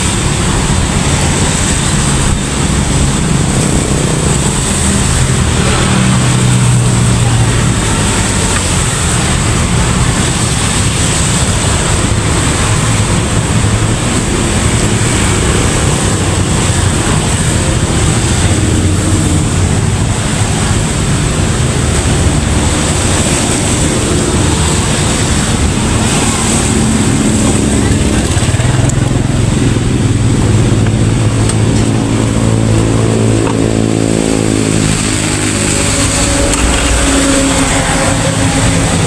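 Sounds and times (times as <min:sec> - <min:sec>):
road noise: 0:00.0 - 0:39.0
vehicle engine running: 0:00.0 - 0:39.0
wind noise: 0:00.0 - 0:39.0.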